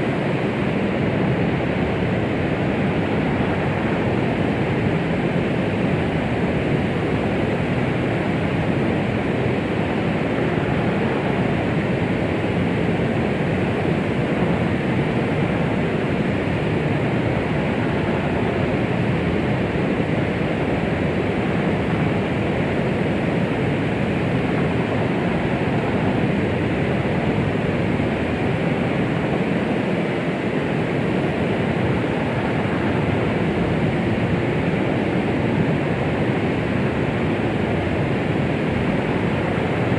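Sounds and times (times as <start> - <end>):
steady white noise hush: 0.0 - 39.9.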